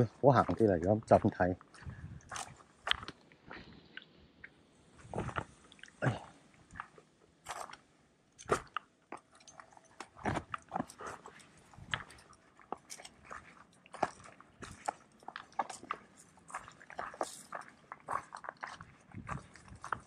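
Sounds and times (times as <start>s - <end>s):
footsteps on dry dirt trail: 0.0s - 3.8s, 5.0s - 5.6s, 8.4s - 20.0s.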